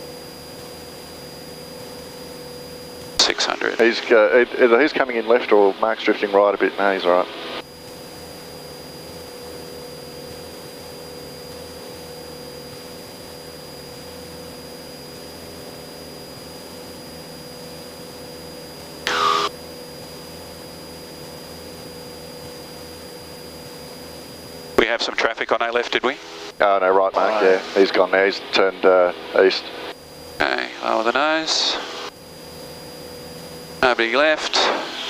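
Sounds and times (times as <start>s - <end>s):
light aircraft engine and propeller drone: 0.0s - 35.0s.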